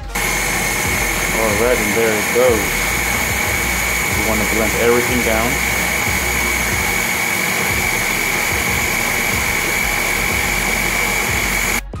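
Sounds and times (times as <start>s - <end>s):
blender motor whining: 0.0s - 12.0s.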